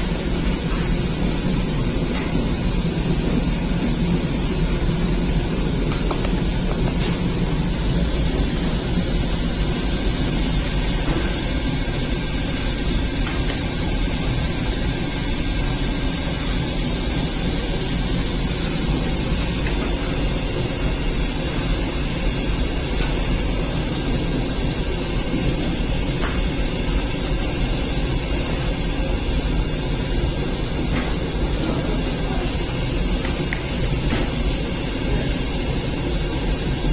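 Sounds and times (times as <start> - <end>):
bakery machinery rumbling: 0.0 - 36.9.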